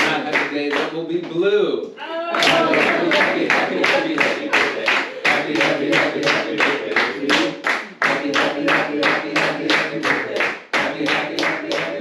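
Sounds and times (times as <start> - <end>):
rhythmic hand clapping: 0.0 - 1.0, 2.4 - 12.0
person singing: 2.3 - 12.0.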